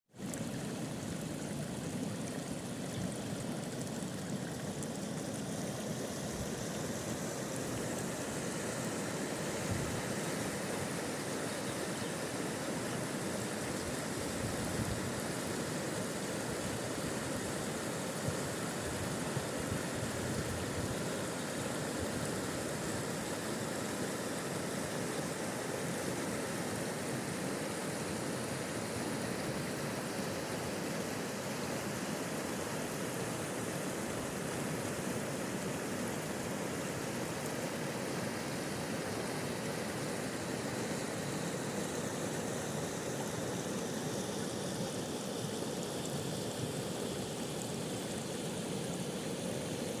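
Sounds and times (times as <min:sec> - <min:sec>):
river water rushing: 0:00.2 - 0:50.0.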